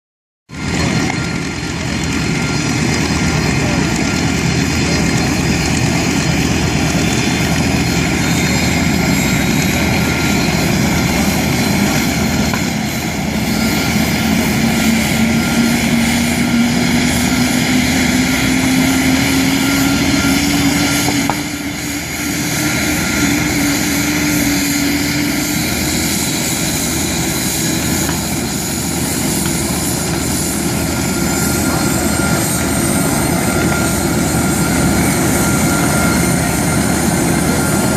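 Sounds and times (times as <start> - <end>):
plane engine rushing in flight: 0.5 - 37.9.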